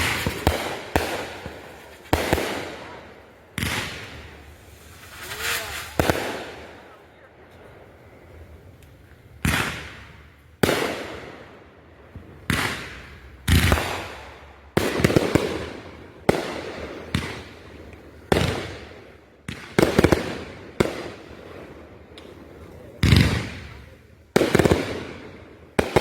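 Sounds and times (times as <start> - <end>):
firework bangs: 0.0 - 7.0, 9.4 - 26.0.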